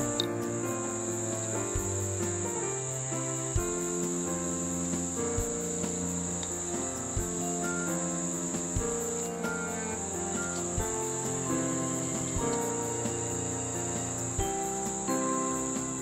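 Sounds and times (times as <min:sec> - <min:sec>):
crickets chirping: 0:00.0 - 0:16.0
slow music with soft beat: 0:00.0 - 0:16.0.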